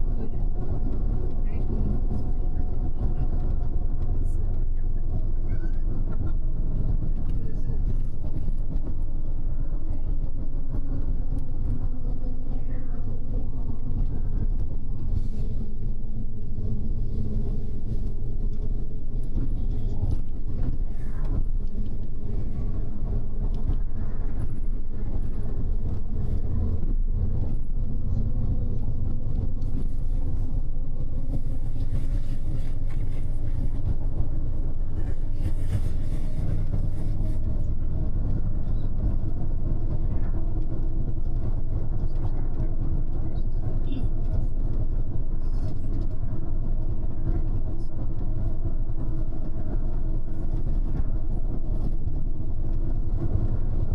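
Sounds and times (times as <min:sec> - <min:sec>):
bus engine hum: 0:00.0 - 0:53.9
low road rumble: 0:00.0 - 0:53.9.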